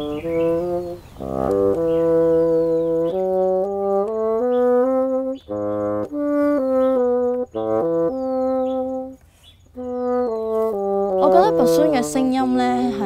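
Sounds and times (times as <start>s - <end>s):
solo bassoon melody: 0.0s - 13.0s.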